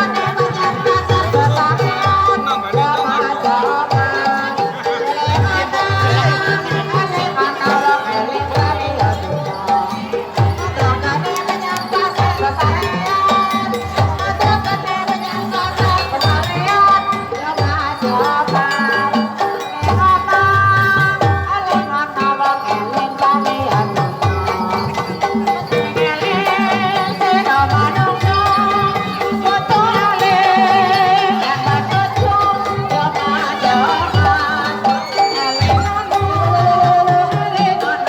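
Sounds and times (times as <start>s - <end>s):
wavering melody line: 0.0s - 38.0s.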